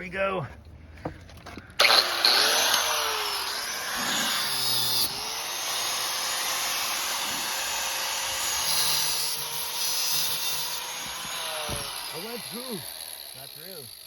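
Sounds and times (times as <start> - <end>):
grinder cutting steel: 1.8 - 14.0.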